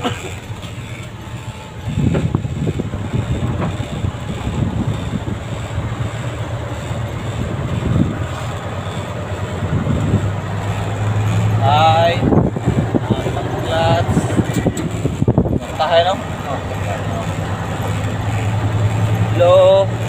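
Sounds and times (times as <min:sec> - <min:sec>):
diesel engine pulling: 0:00.0 - 0:20.0.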